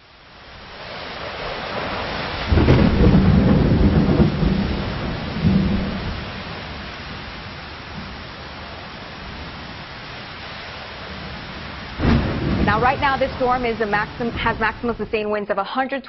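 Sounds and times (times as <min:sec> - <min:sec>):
heavy rain: 0:00.0 - 0:15.4
thunder rolling: 0:00.6 - 0:15.3.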